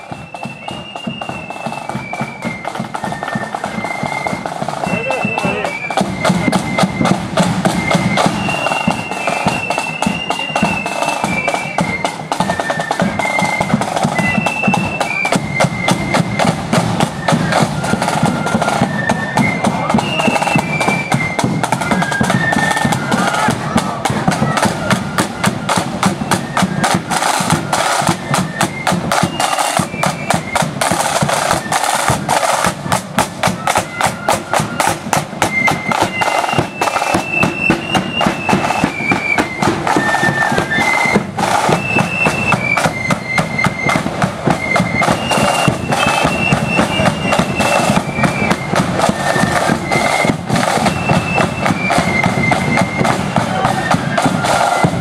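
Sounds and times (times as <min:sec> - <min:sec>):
flutes playing high tune: 0:00.0 - 0:55.0
snare drums beating: 0:00.0 - 0:55.0.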